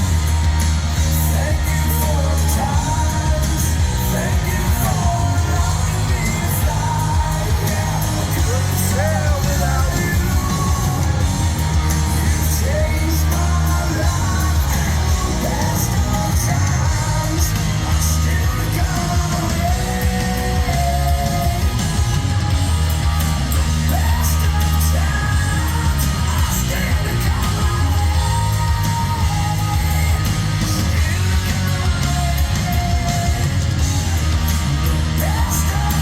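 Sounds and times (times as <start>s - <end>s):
hard rock band playing live: 0.0s - 36.0s
person singing and shouting: 0.0s - 36.0s.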